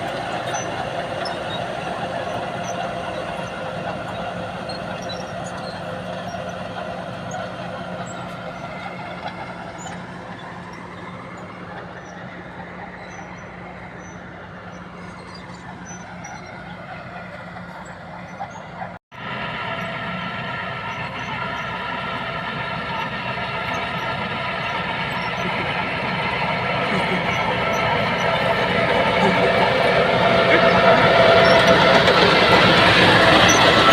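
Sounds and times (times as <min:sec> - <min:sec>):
bulldozer engine running: 0:00.0 - 0:33.9.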